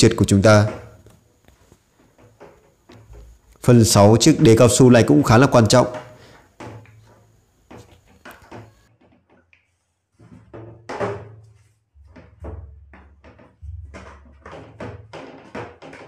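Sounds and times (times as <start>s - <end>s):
plastic parts knocking and scraping: 0.0s - 16.0s.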